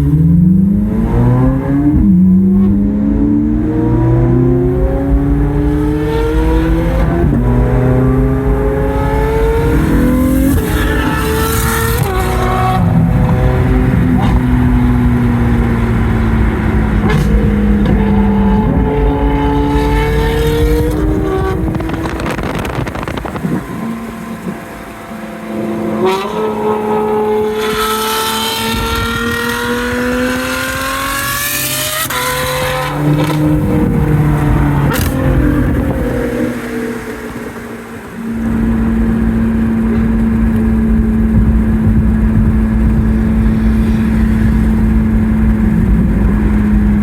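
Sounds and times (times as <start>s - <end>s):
sports car engine revving: 0.0s - 47.0s.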